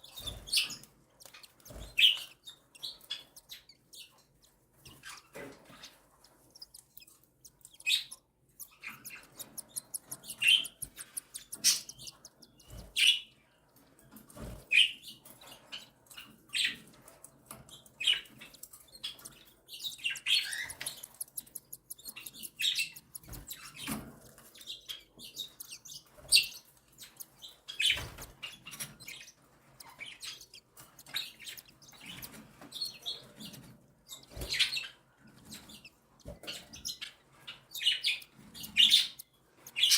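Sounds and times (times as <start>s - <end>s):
chicks begging chirps: 0.0s - 13.8s, 17.6s - 39.9s.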